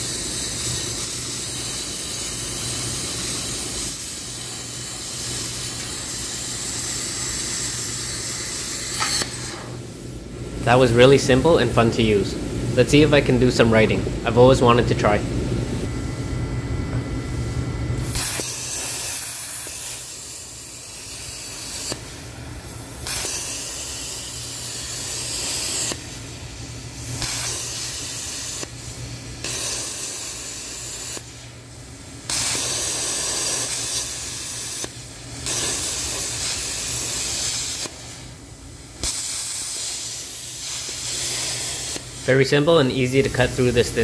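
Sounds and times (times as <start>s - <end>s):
plasma cutter hissing: 0.0s - 12.2s, 18.0s - 44.0s
steady low hum: 0.1s - 44.0s.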